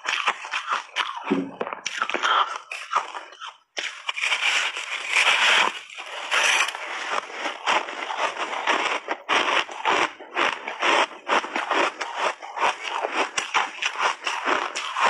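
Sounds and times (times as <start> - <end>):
ice crunching in the mouth: 0.0 - 15.0.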